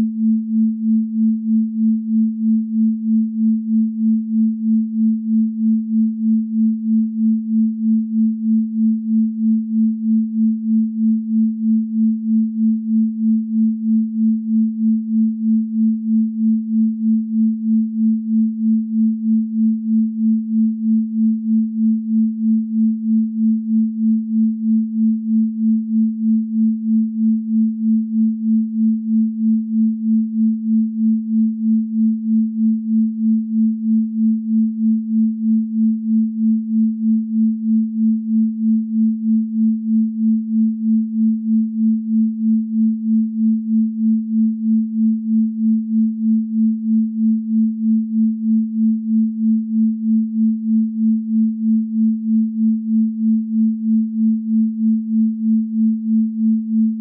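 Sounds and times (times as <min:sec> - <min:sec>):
pulsing pure sine tone: 0:00.0 - 0:57.0.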